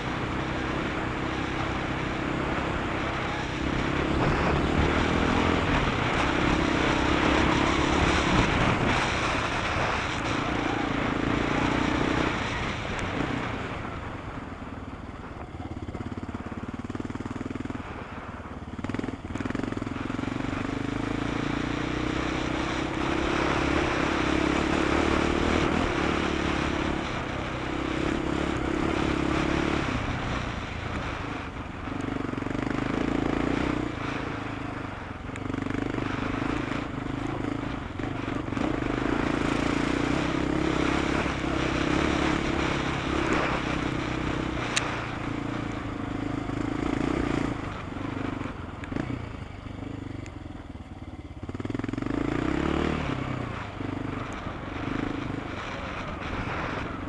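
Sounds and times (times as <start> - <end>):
wind noise: 0.0 - 16.6, 22.6 - 49.8, 51.9 - 57.0
rally car engine running hard: 0.0 - 57.0.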